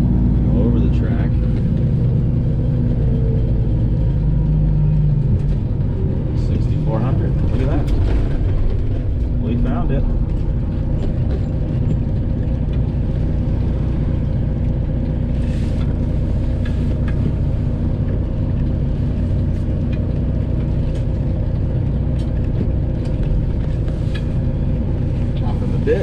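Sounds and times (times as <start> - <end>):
truck engine droning: 0.0 - 26.0.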